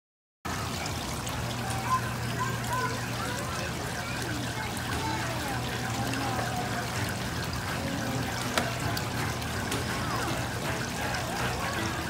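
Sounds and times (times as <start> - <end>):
water running and trickling: 0.5 - 12.0.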